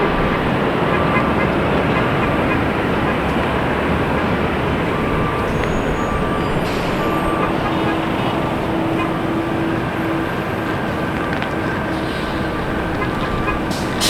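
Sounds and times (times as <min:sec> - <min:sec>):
engine and traffic rumble: 0:00.0 - 0:14.0.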